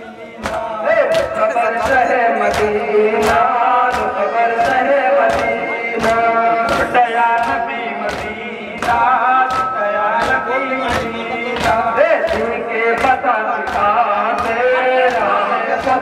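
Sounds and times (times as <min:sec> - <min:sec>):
men chanting in unison: 0:00.0 - 0:16.0
hand-slaps on chests: 0:00.4 - 0:16.0.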